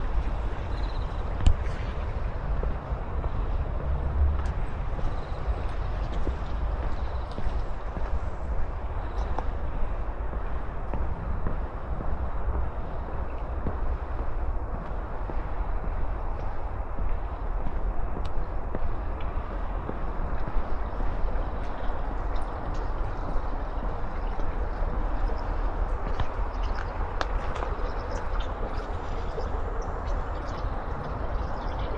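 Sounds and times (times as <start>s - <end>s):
light clacks of wheels: 0.0s - 31.9s
vehicle rumbling: 0.0s - 31.9s.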